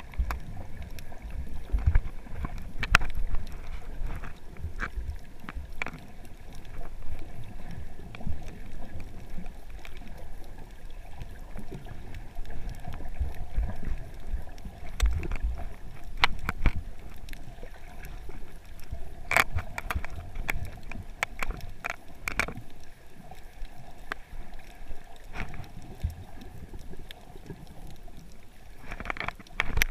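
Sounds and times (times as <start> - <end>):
sharp underwater clicks: 0.0 - 29.9
underwater rumble of moving water: 0.0 - 29.9.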